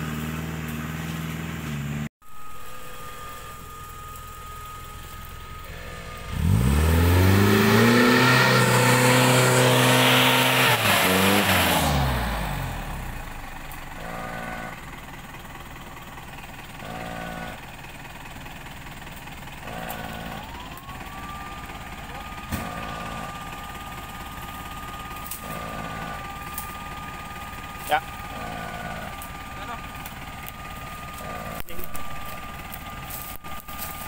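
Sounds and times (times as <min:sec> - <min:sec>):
engine revving: 0:00.0 - 0:02.1, 0:04.6 - 0:15.0, 0:16.1 - 0:17.8, 0:19.6 - 0:34.0
engine idling with throttle blips: 0:00.0 - 0:34.0.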